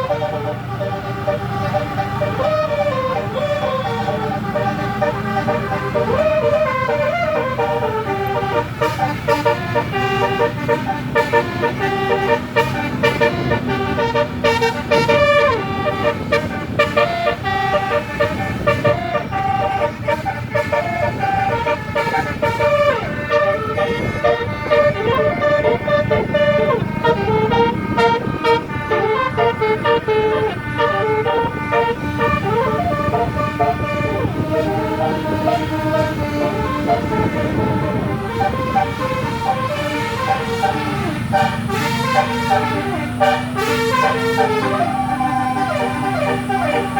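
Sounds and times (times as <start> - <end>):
bus engine rumble: 0.0 - 46.9
multi-tone bus horn melody: 0.0 - 46.9.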